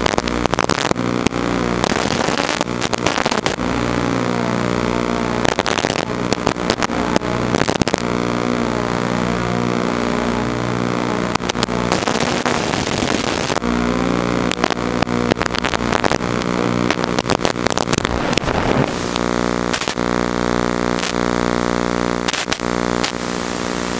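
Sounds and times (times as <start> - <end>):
drone motors buzzing: 0.0 - 23.9
radio crackles: 0.0 - 23.9.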